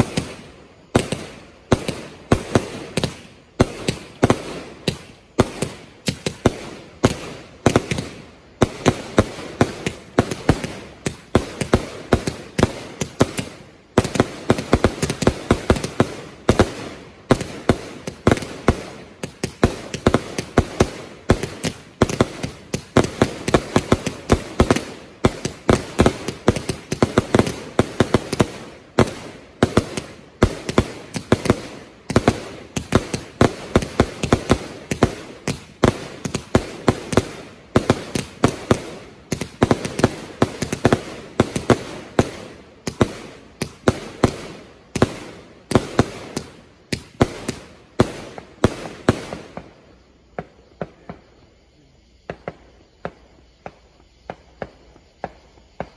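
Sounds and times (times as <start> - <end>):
firework barrage: 0.0 - 55.9.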